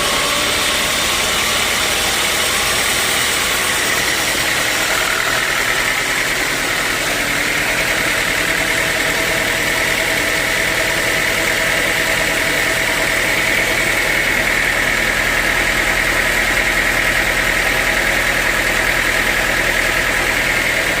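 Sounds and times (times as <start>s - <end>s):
sawmill machinery droning: 0.0s - 21.0s.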